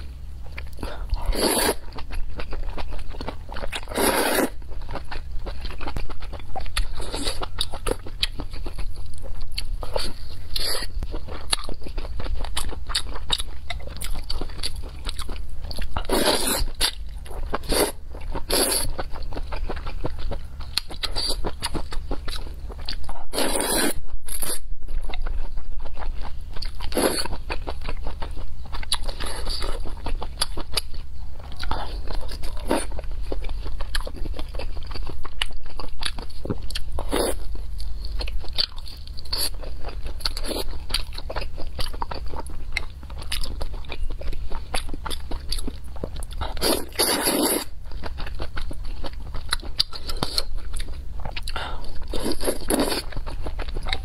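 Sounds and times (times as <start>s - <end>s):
chewing mouth noises: 0.5s - 54.0s.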